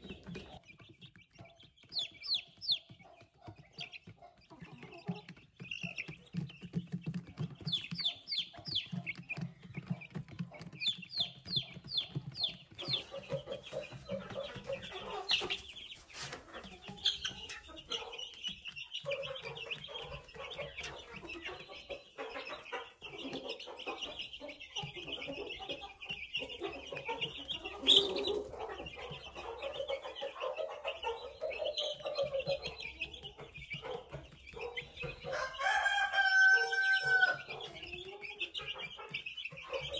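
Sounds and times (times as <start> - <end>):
chicks peeping and clucking: 0.0 - 39.9.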